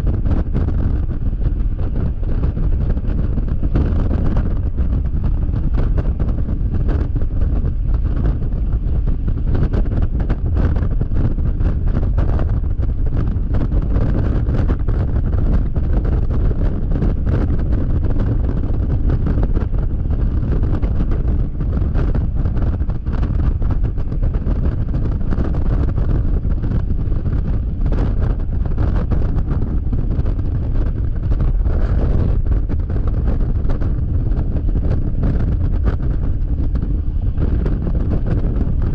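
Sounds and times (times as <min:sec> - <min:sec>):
scooter running noise: 0:00.0 - 0:38.9
wind buffeting microphone: 0:00.0 - 0:38.9.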